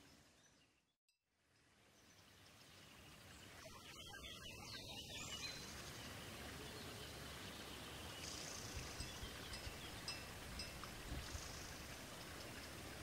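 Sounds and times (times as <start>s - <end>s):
soft steady hiss: 1.3s - 13.0s.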